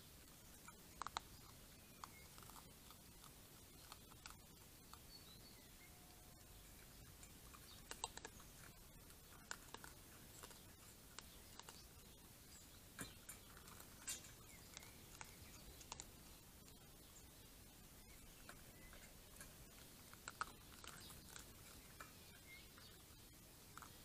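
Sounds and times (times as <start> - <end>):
kibble crunching in metal bowl: 0.1 - 17.1, 17.9 - 24.0.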